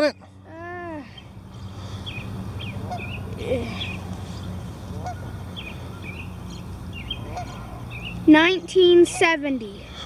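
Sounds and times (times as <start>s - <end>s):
birds calling: 0.0s - 10.0s
highway traffic hum: 0.0s - 10.0s.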